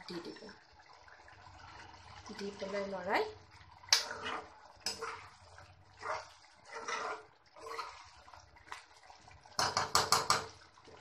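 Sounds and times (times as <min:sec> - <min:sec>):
spatula stirring thick gravy: 0:00.8 - 0:11.0.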